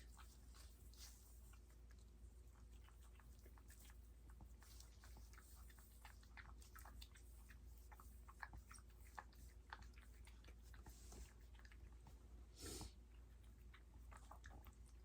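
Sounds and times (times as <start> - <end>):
dog licking and chewing: 0.0 - 15.0.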